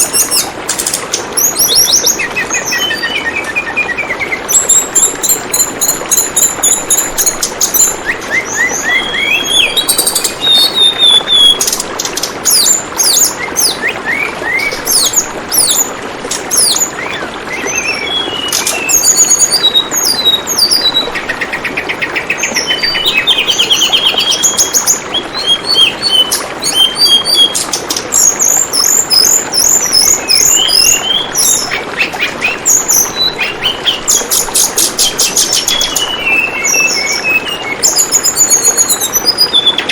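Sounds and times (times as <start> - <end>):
running water trickling: 0.0 - 39.9
songbird chirping and trilling: 0.0 - 39.9.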